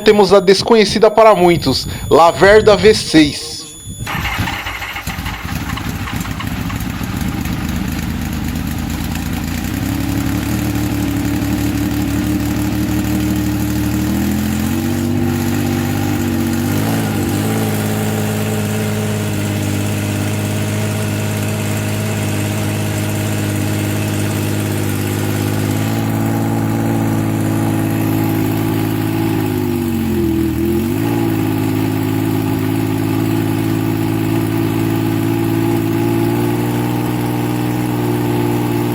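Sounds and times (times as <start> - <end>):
motorcycle engine idling: 4.0 - 38.9.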